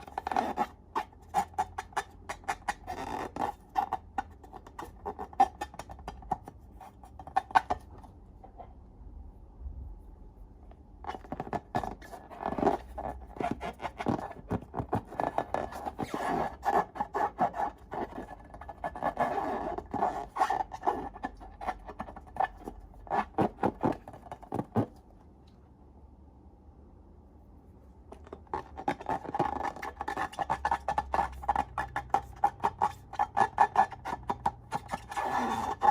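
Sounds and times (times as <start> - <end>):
slime scraping: 0.0 - 8.0, 11.0 - 25.0, 28.1 - 35.9.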